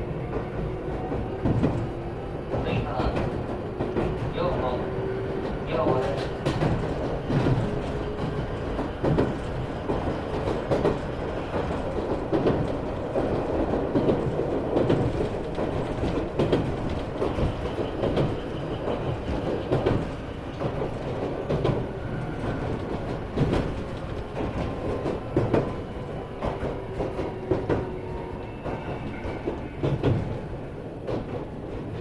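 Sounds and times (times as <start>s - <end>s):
train wheels rumbling on rail: 0.0s - 32.0s
wheels clicking over rail joints: 0.2s - 32.0s.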